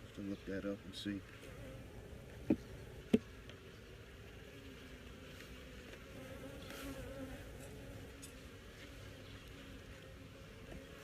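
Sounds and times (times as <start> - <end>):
honeybees buzzing: 0.1 - 11.0.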